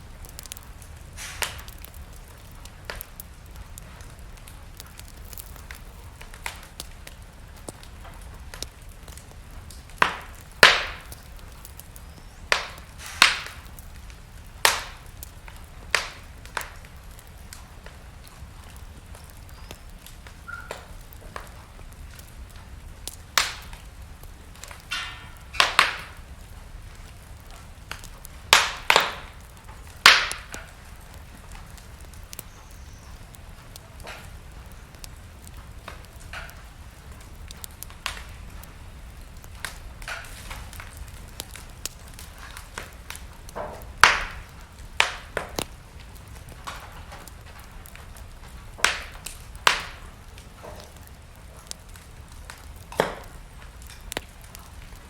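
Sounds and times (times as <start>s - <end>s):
wood fire popping and snapping: 0.0s - 55.0s.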